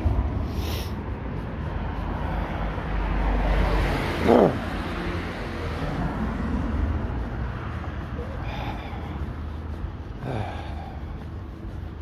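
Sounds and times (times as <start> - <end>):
car passing by: 0.0 - 12.0.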